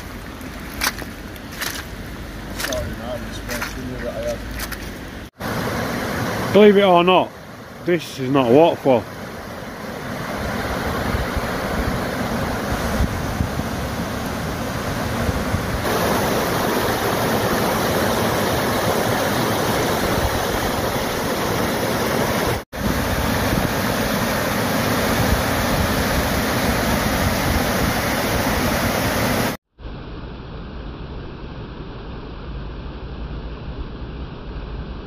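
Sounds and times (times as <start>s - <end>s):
rushing water runoff: 0.0s - 29.6s.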